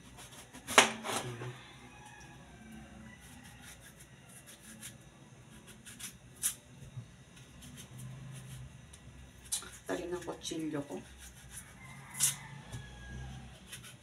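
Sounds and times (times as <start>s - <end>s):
knife scraping melon rind: 0.0s - 2.2s, 2.9s - 6.6s, 7.4s - 14.0s.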